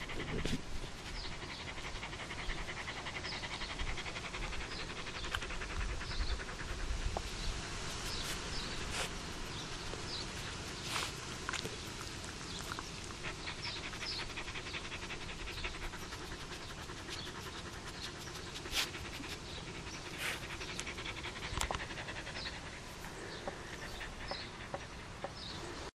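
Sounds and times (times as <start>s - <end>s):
dog panting: 0.0s - 25.9s.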